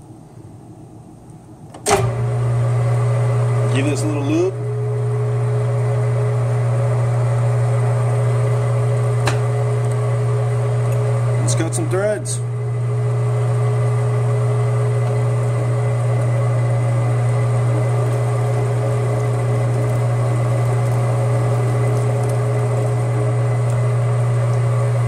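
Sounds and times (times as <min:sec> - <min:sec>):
metal lathe humming: 0:04.5 - 0:25.0.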